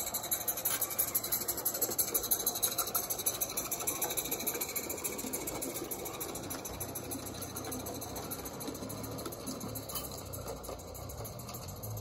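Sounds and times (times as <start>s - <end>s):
steam locomotive chuffing: 0.0s - 12.0s
wagons rolling over track: 0.0s - 12.0s.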